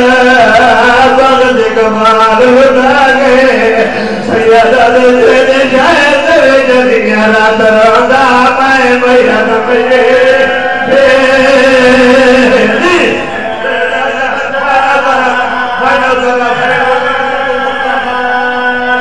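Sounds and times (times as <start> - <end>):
men chanting through microphones: 0.0 - 19.0.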